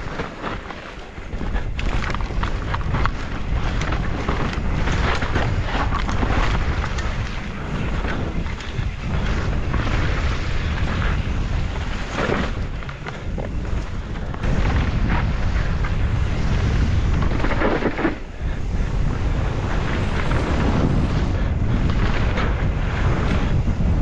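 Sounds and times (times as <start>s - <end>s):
bike rattling over bumps: 0.0s - 24.0s
tyres crunching over dirt trail: 0.0s - 24.0s
wind buffeting microphone: 0.0s - 24.0s.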